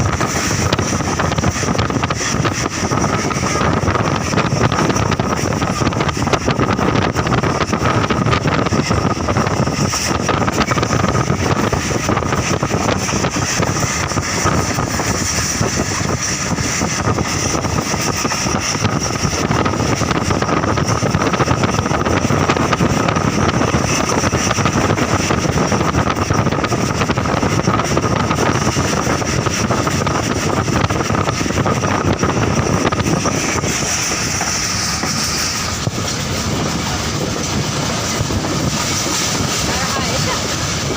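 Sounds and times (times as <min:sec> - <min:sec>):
train wheel and track noise: 0:00.0 - 0:40.9
wind on microphone: 0:00.0 - 0:40.9.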